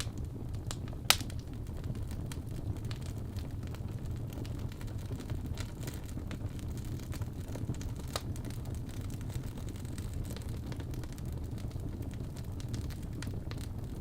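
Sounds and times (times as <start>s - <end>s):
log fire crackling and popping: 0.0s - 14.0s.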